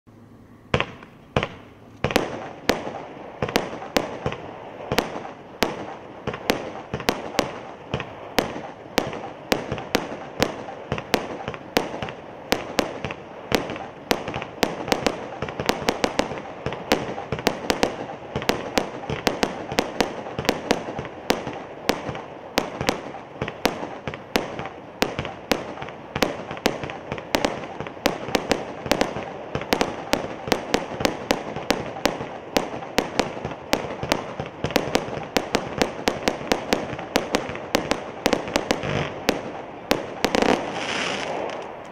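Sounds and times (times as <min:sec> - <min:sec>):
firework barrage bangs: 0:00.7 - 0:41.8.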